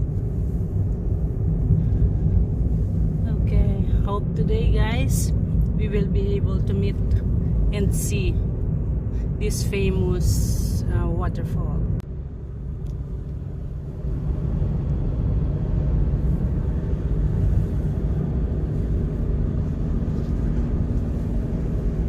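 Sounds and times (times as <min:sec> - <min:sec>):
car cabin road and engine rumble: 0:00.0 - 0:22.0.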